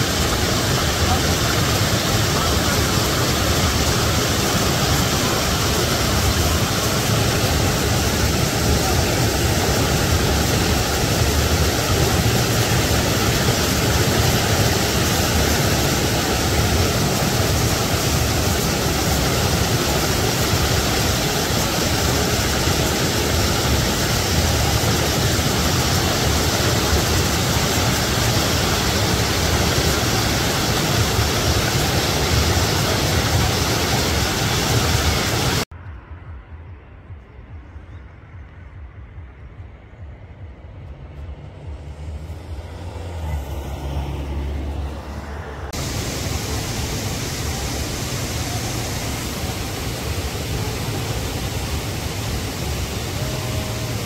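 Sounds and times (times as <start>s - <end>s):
river rushing over rocks: 0.0s - 35.7s, 45.7s - 54.0s.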